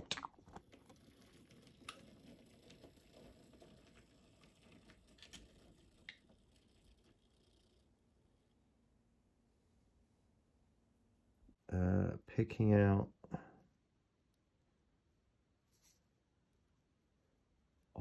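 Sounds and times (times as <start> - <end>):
faint hum: 1.8 - 18.0.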